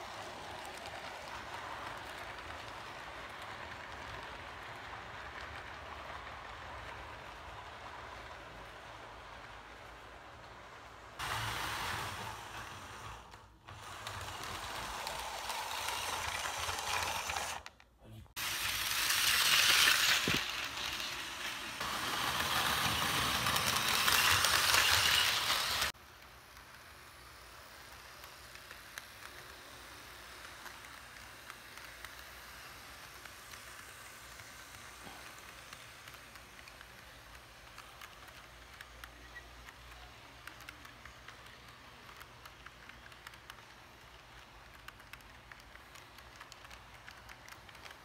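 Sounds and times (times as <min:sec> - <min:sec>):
wheels ticking over rail joints: 0:00.0 - 0:17.8, 0:18.5 - 0:48.0
model trains whirring and rattling: 0:00.0 - 0:48.0.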